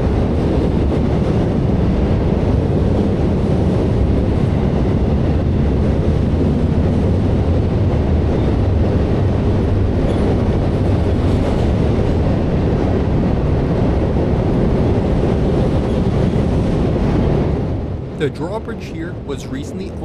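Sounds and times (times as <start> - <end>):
freight train wheels on rails: 0.0 - 20.0.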